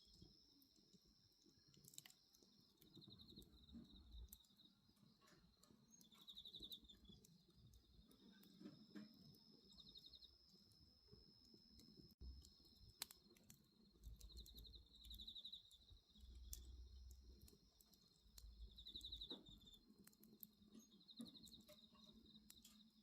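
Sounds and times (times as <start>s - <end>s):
bonfire crackling: 0.0s - 23.0s
crickets chirping: 0.0s - 23.0s.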